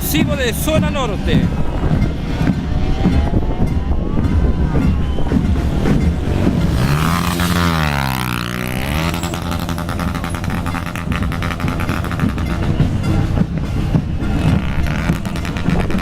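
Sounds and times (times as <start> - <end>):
traffic noise: 0.0 - 16.0
vehicle engine running: 0.0 - 16.0.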